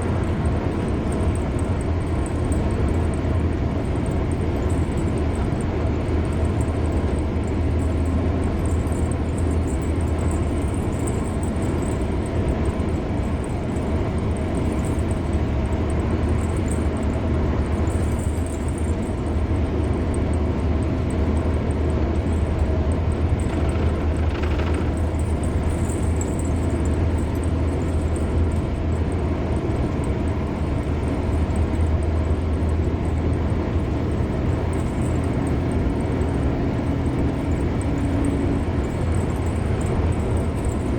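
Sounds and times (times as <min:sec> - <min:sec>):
car driving on highway: 0:00.0 - 0:40.9.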